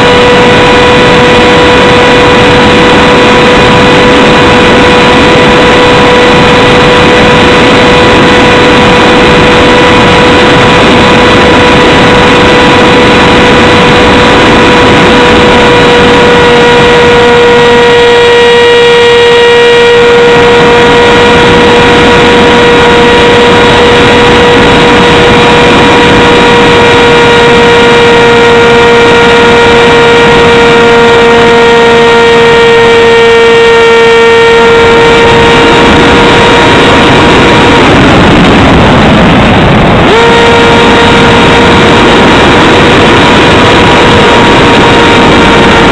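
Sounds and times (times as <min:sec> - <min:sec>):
electric motor and propeller whine: 0:00.0 - 0:45.9
wind noise over microphone: 0:00.0 - 0:45.9.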